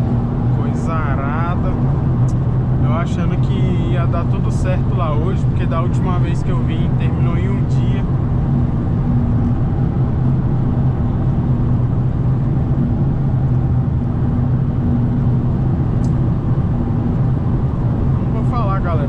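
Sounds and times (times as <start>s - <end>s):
car engine hum: 0.0s - 19.0s.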